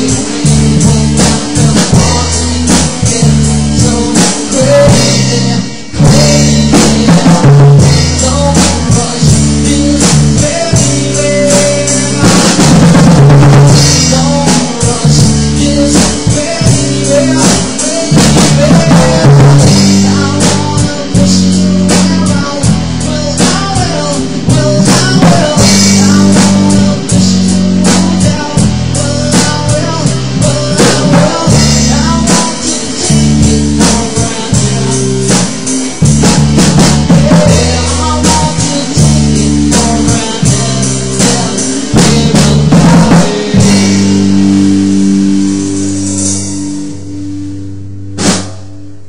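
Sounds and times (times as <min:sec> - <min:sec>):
drum hit: 0:00.0 - 0:23.9, 0:29.4 - 0:46.6, 0:48.1 - 0:48.8
live rock band playing: 0:00.0 - 0:49.0.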